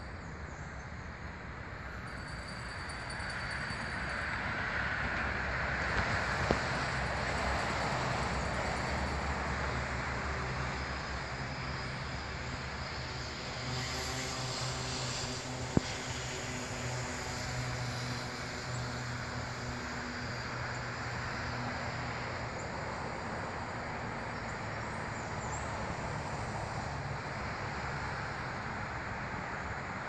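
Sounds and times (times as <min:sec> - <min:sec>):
distant engine drone: 0:03.8 - 0:30.0.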